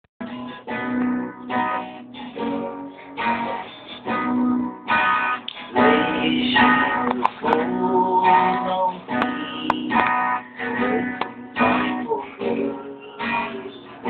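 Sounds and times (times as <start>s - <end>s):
acoustic guitar strumming: 0.2s - 14.0s.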